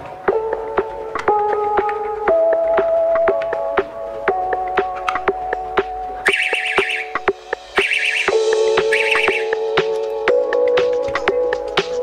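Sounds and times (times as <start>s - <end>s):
held chord music: 0.0s - 12.0s
ticking beat: 0.2s - 12.0s.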